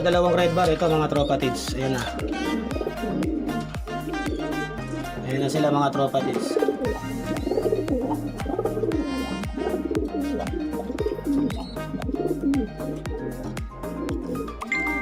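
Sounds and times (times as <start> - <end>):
music with thumping beat: 0.0 - 5.4, 6.4 - 15.0
pigeons cooing: 0.6 - 15.0.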